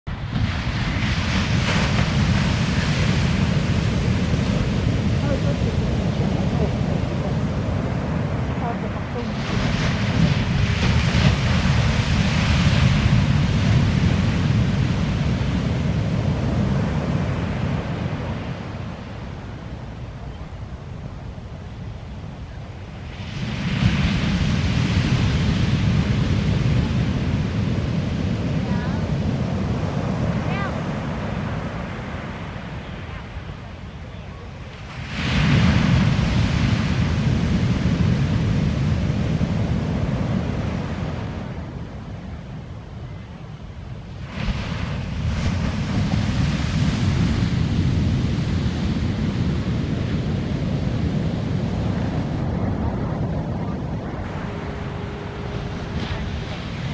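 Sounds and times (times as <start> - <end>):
surf rumble: 0.0 - 56.9
wave crashing: 0.1 - 43.0, 43.6 - 56.9.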